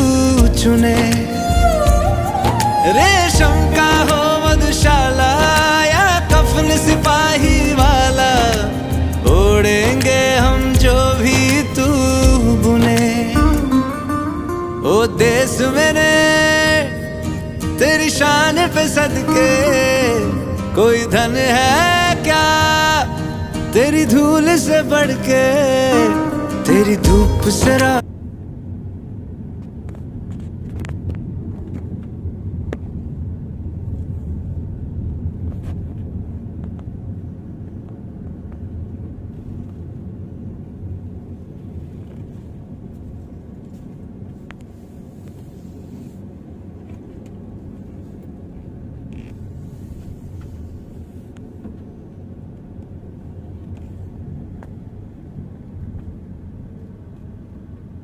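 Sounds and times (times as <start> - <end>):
low steady rumble: 0.0 - 58.0.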